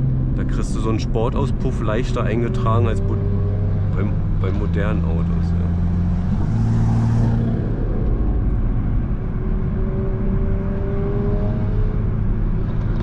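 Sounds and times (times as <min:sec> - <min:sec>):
road rumble: 0:00.0 - 0:13.0
loud car exhaust: 0:01.6 - 0:12.6.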